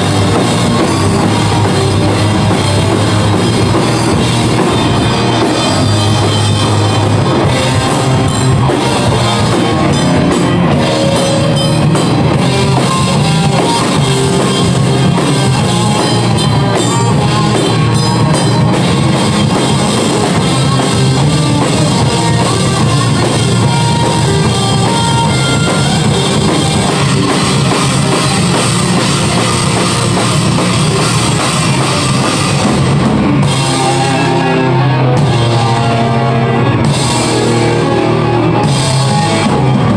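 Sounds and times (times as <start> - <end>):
electric guitar: 0.0 - 39.9
fast drumming on drum kit: 0.0 - 39.9
heavy metal band playing live: 0.0 - 39.9.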